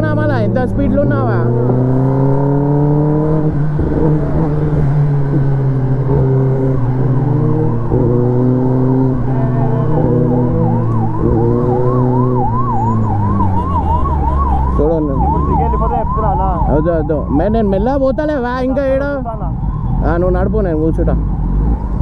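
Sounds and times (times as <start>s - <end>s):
siren warbling: 0.0s - 20.6s.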